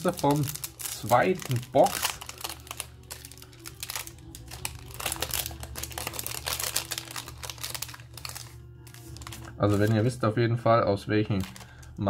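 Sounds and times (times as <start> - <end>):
foil tearing rustles: 0.0 - 10.1, 11.3 - 11.9
foil pack crinkling: 0.0 - 10.2, 11.2 - 12.0.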